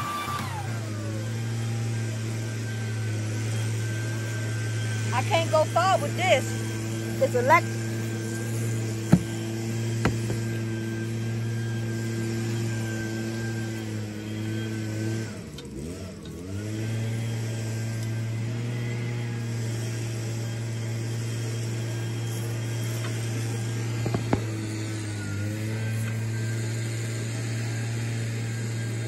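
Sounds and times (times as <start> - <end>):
leaf blower motor humming: 0.0 - 29.0.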